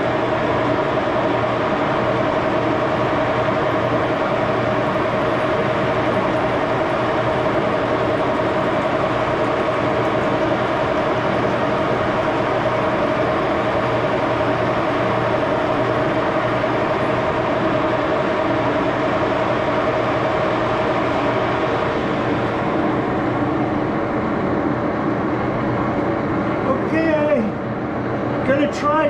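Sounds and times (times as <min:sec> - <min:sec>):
lathe gear whine: 0:00.0 - 0:29.0.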